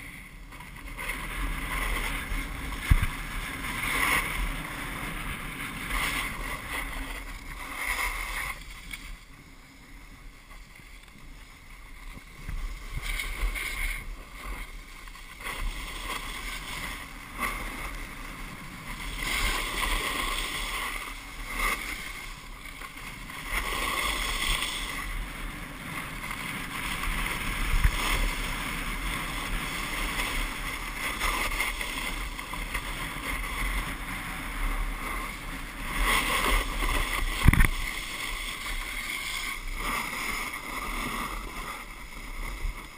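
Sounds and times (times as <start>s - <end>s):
wind rushing over microphone: 0.0s - 9.3s, 12.0s - 42.9s
snowboard edges scraping snow: 0.0s - 42.9s.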